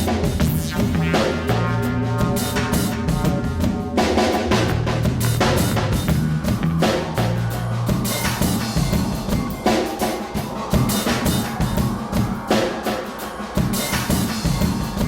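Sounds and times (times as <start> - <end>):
music with drums and bass: 0.0 - 15.0.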